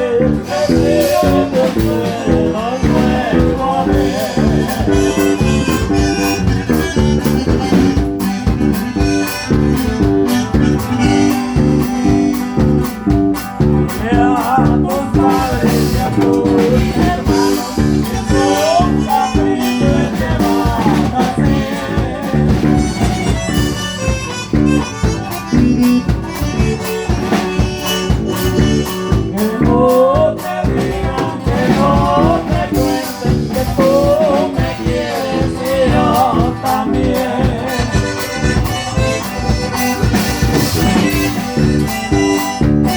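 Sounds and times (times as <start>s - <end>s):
accordion melody: 0.0s - 42.9s
bajo sexto and bass: 0.0s - 42.9s.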